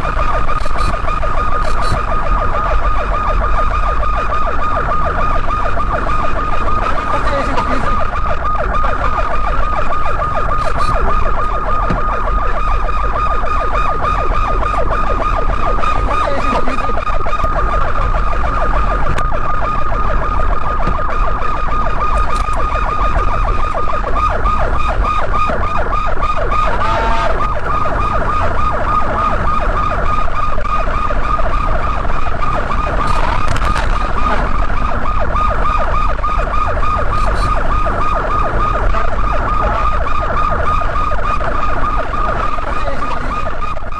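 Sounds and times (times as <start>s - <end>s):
engine and road rumble: 0.0s - 43.9s
police sirens warbling: 0.0s - 43.9s.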